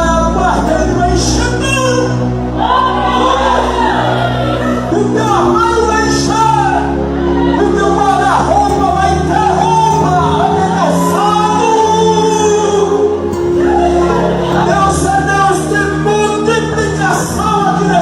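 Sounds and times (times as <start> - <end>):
sustained chords: 0.0 - 18.0.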